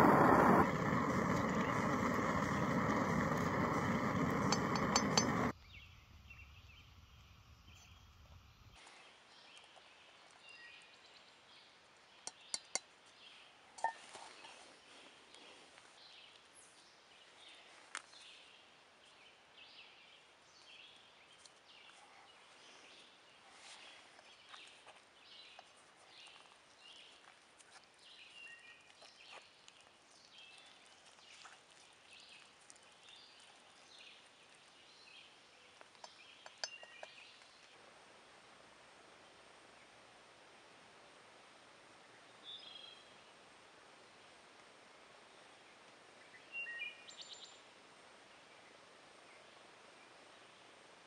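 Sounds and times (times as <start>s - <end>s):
faint woodland birdsong: 0.0s - 40.2s, 41.0s - 51.0s.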